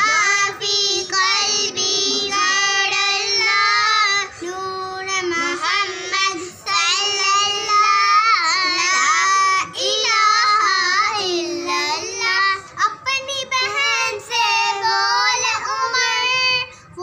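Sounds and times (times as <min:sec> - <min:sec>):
girls singing long held notes: 0:00.0 - 0:17.0.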